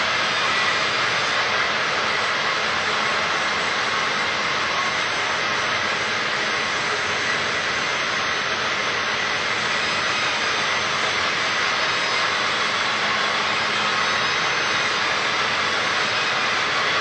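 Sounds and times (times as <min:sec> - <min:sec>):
faint high whine: 0:00.0 - 0:17.0
machine running: 0:00.0 - 0:17.0.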